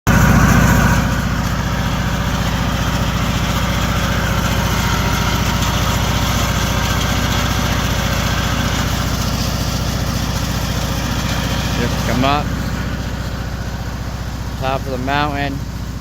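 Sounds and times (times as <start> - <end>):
small engine running steadily: 0.1 - 16.0.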